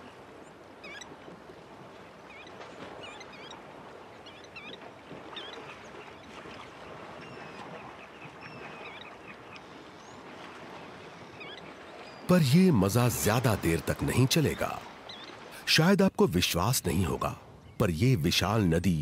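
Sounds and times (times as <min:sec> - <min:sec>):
elephants splashing in water: 0:00.0 - 0:15.6.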